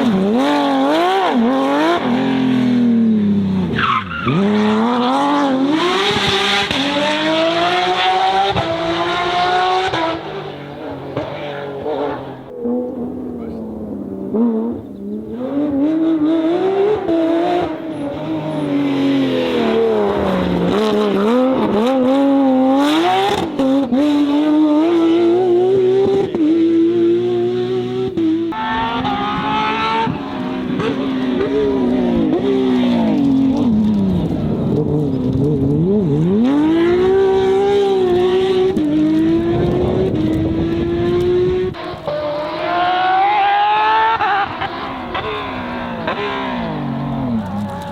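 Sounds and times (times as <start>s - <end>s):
rally car engines revving hard: 0.0s - 47.9s.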